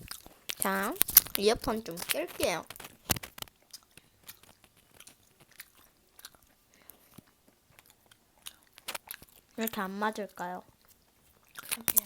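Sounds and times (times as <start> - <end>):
person chewing food: 0.0 - 9.9, 10.7 - 12.0.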